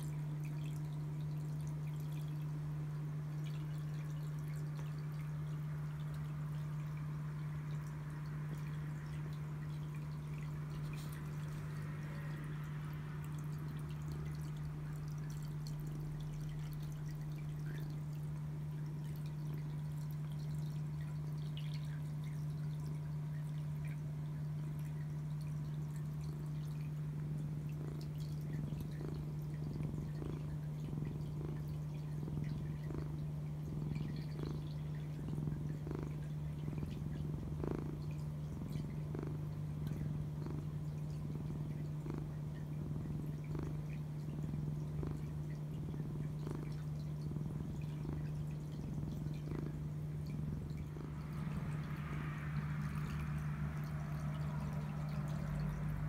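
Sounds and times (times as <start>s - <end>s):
cat purring: 0.0s - 56.0s
steady low hum: 0.0s - 56.0s.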